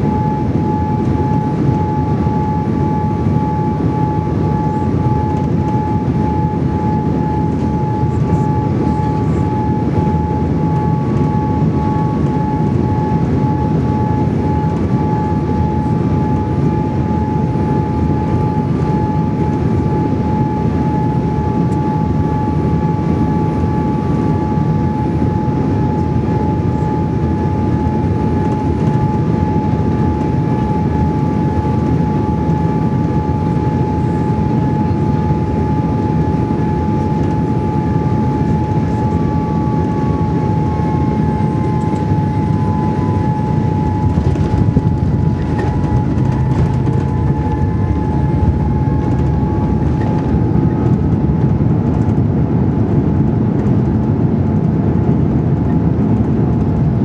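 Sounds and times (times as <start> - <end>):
jet engine rush and airflow: 0.0 - 57.0
steady whine: 0.0 - 57.0.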